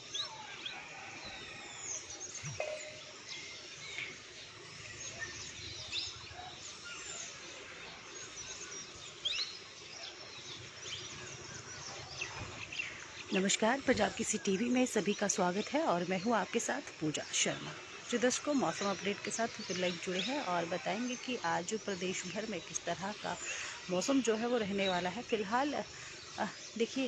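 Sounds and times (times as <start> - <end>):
low outdoor background noise: 0.0 - 27.0
small birds chirping: 0.0 - 27.0.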